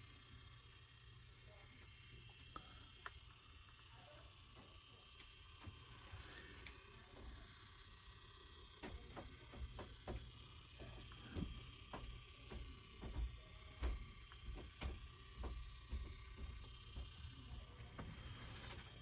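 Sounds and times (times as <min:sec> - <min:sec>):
motorised turntable hum: 0:00.0 - 0:19.0.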